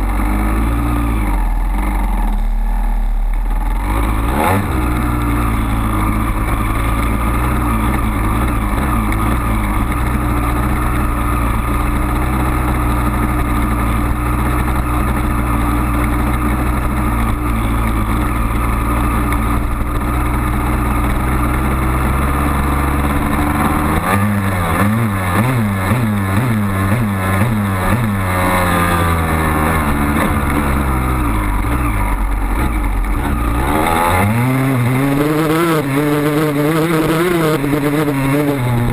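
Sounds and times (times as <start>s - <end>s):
dirt bike engine revving: 3.6s - 38.9s.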